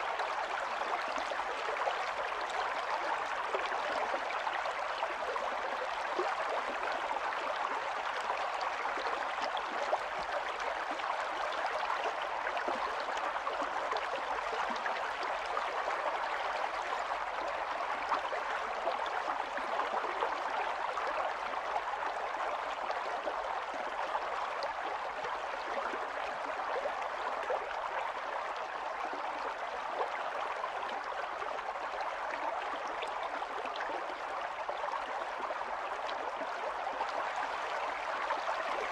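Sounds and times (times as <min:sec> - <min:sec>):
stream babbling and trickling: 0:00.0 - 0:38.9.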